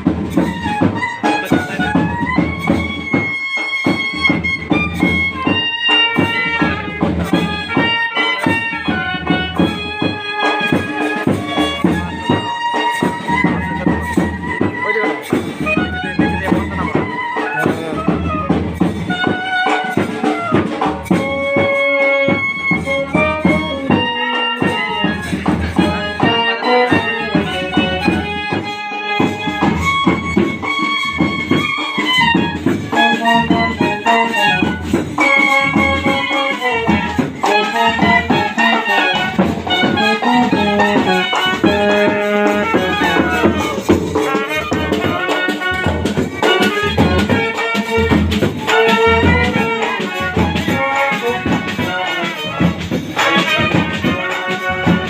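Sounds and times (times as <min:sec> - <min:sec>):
rattling percussion: 0:00.0 - 0:55.0
steady drum beat: 0:00.0 - 0:55.0
wind instrument melody: 0:00.0 - 0:55.0.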